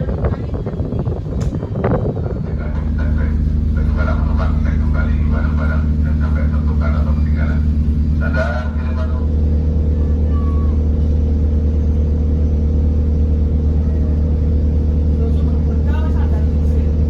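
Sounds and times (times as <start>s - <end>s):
loud engine drone: 0.0s - 17.0s.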